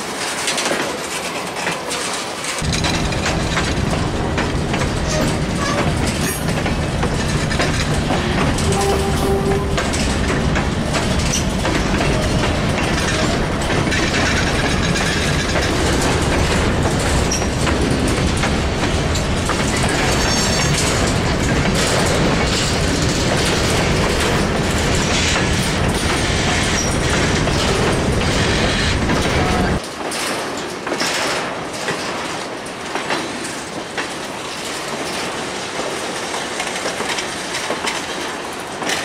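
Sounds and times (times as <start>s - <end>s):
train wheels rumbling on rail: 0.0s - 39.0s
wheels clicking over rail joints: 0.0s - 39.0s.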